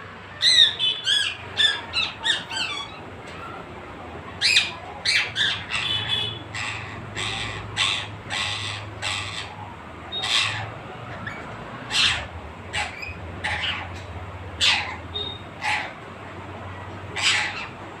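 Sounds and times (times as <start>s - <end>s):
parrot squawking: 0.4s - 3.0s, 4.4s - 16.0s, 17.1s - 17.8s.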